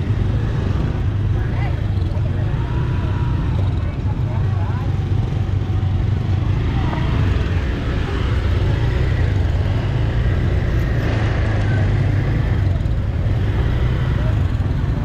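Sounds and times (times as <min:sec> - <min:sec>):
faint crowd voices: 0:00.0 - 0:15.0
scooter engines rumbling: 0:00.0 - 0:15.0.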